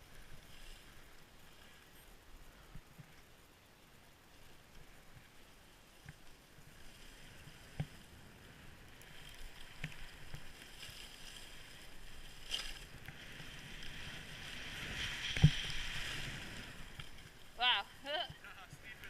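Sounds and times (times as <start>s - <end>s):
skis sliding over snow: 0.0s - 19.0s.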